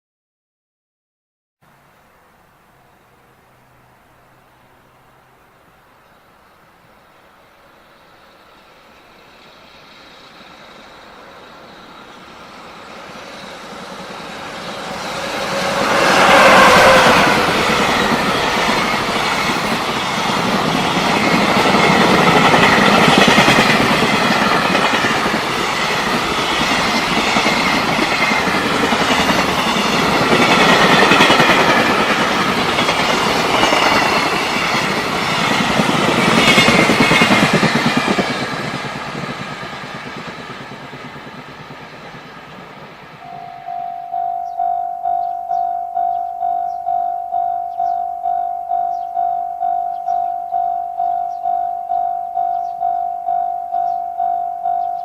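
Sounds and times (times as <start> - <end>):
freight train passing: 1.7 - 55.0.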